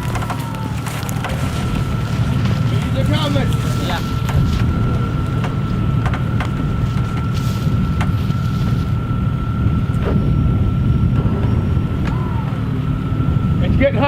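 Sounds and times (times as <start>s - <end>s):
constant high whine: 0.0s - 14.0s
vehicle engine rumbling: 0.0s - 14.0s.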